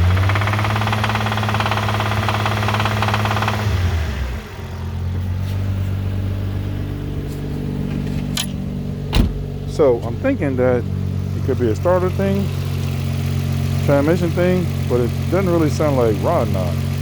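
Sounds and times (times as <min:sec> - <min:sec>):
knocking car engine: 0:00.0 - 0:17.0.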